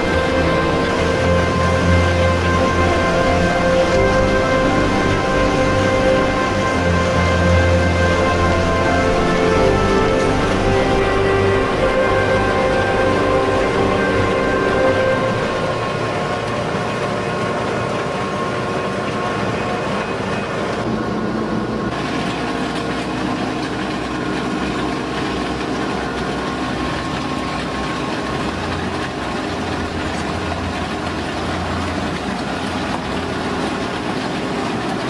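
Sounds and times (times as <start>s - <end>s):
road machine mechanical drone: 0.0s - 35.0s.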